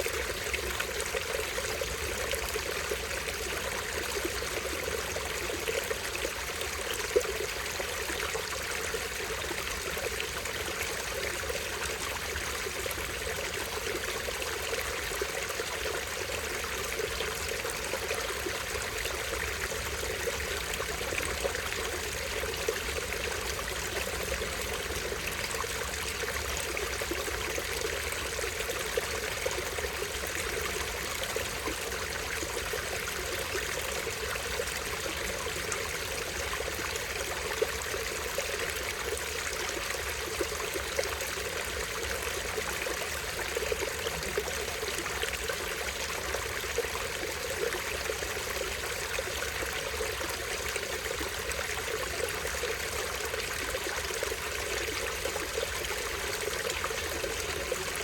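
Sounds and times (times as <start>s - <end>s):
stream trickling over small waterfall: 0.0s - 58.0s.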